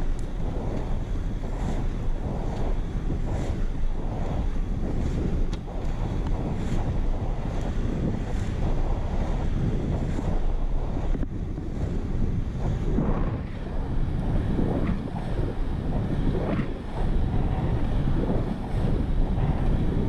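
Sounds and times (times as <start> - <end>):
skate wheels rolling on asphalt: 0.0 - 20.0
wind buffeting microphone: 0.0 - 20.0.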